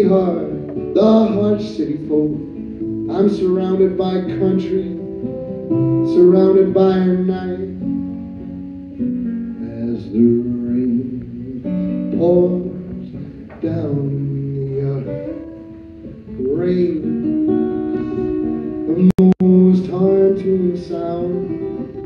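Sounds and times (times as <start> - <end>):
man singing: 0.0 - 5.1, 6.0 - 7.9, 9.6 - 15.6, 16.3 - 22.0
strummed acoustic guitar: 0.0 - 22.0.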